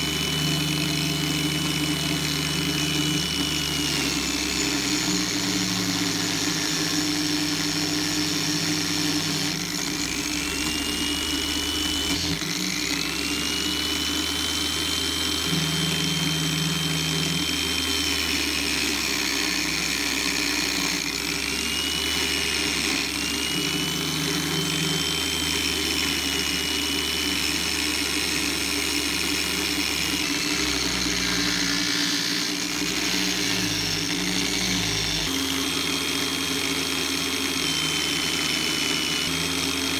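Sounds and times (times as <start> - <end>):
power tool motor whining: 0.0 - 39.9.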